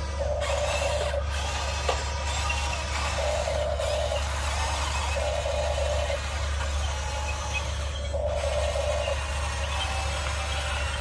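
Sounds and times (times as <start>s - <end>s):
electric gear motors whirring: 0.0s - 11.0s
steady low hum: 0.0s - 11.0s.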